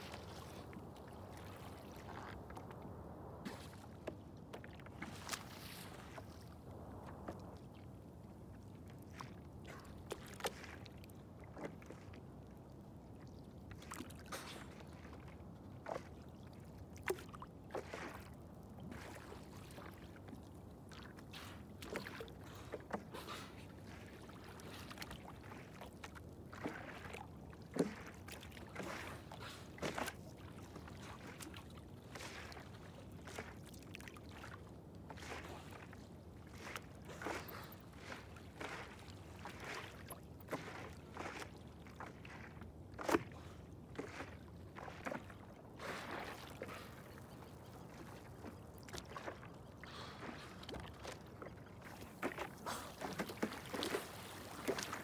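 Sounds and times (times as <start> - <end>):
water lapping against boat hull: 0.0 - 55.0
water slapping and splashing: 0.0 - 55.0.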